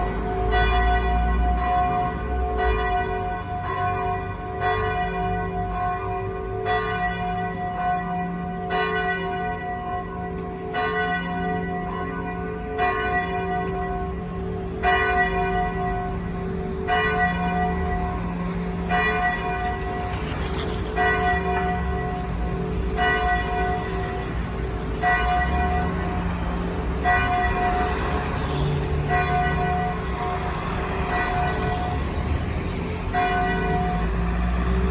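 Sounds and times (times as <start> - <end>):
church bell ringing: 0.0 - 34.9.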